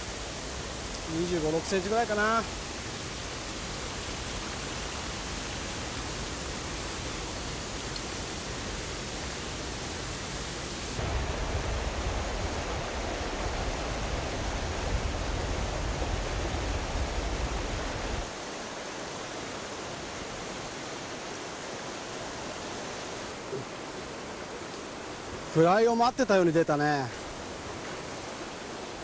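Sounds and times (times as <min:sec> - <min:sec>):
rocky mountain stream rushing: 0:00.0 - 0:29.0.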